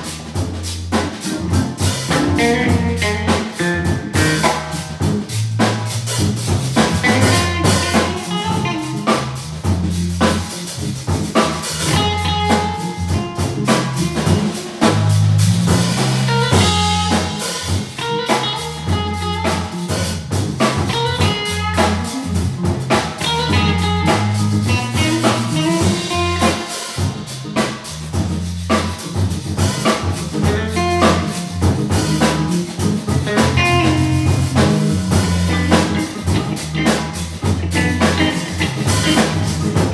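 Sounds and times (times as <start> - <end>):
drum kit: 0.0 - 39.9
electric guitar: 0.0 - 39.9
organ playing blues: 0.0 - 39.9.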